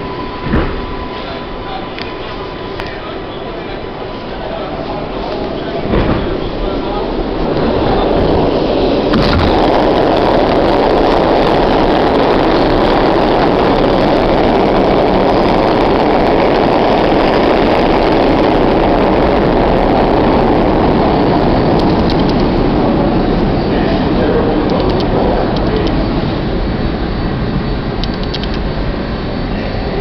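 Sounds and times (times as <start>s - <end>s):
subway train rumbling in tunnel: 0.0s - 30.0s.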